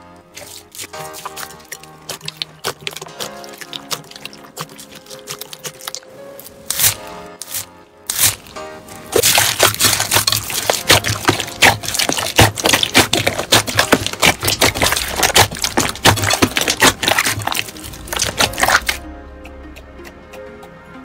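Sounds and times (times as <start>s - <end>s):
bead slime crackling and squelching: 0.3s - 19.0s.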